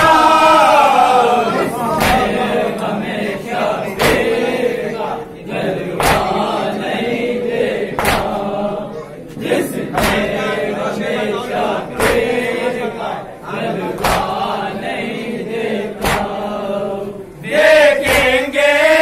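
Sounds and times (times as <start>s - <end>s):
men chanting in chorus: 0.0s - 19.0s.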